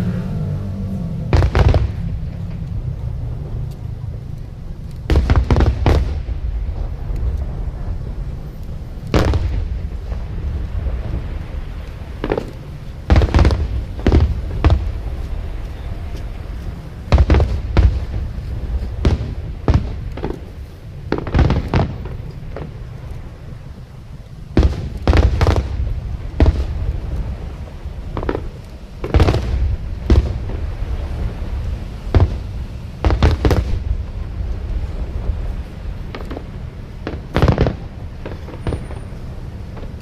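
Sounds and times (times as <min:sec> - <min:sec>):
continuous low rumble: 0:00.0 - 0:40.0
fireworks bangs: 0:00.1 - 0:40.0.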